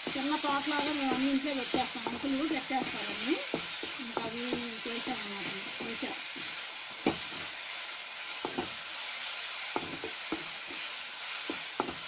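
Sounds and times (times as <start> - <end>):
spatula scraping and tapping pan: 0.0 - 7.6, 8.3 - 8.8, 9.7 - 12.0
vegetables sizzling in oil: 0.0 - 12.0.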